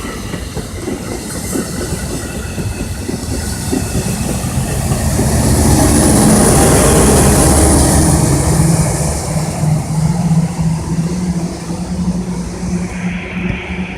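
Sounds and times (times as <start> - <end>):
train passing close by: 0.0 - 13.9.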